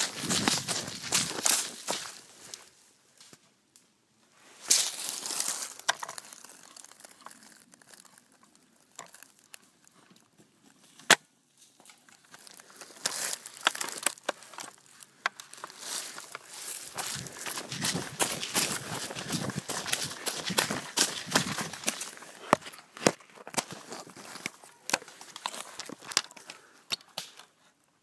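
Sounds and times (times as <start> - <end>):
dry leaves crunching underfoot: 0.0 - 2.8, 4.5 - 9.8, 11.8 - 26.7.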